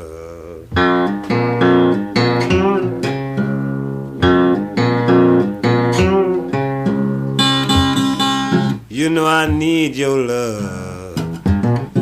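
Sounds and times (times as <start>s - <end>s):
blues guitar: 0.0s - 12.0s.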